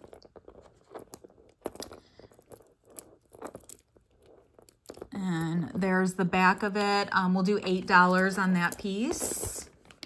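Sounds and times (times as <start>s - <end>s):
metal necklace clicking and rustling: 0.0s - 10.0s.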